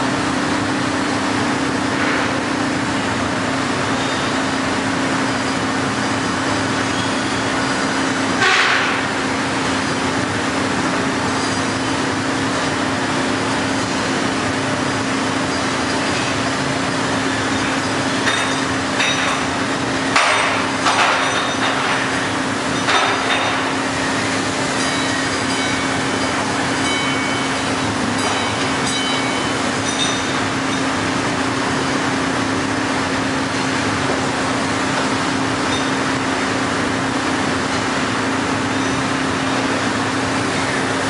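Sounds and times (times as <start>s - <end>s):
plate rolling machine humming: 0.0s - 41.0s.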